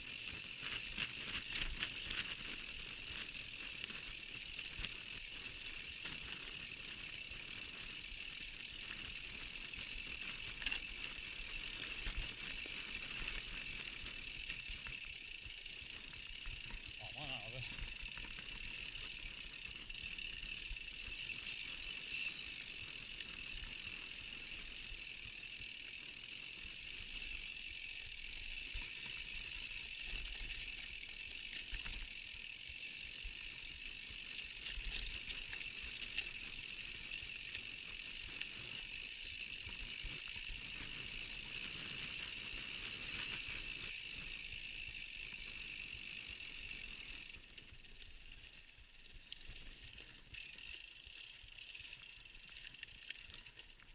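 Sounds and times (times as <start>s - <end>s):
bike tyres hissing on dirt: 0.0s - 47.4s.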